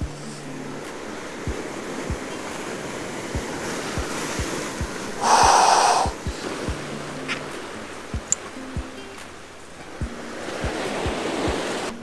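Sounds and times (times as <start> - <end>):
wave surging over rocks: 0.0 - 12.0
surf breaking against rocks: 0.6 - 12.0.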